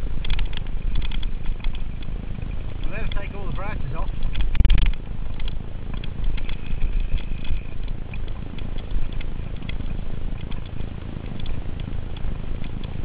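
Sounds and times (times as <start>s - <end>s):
bike rattling clicks: 0.0s - 13.0s
tyres rumbling over dirt: 0.0s - 13.0s
wind buffeting microphone: 0.0s - 13.0s.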